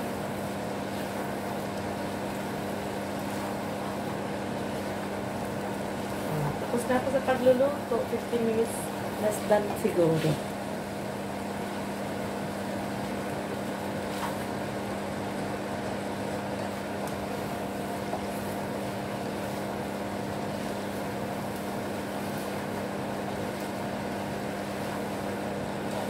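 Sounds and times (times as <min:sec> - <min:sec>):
faint sizzle: 0:00.0 - 0:26.0
steady mechanical hum: 0:00.0 - 0:26.0.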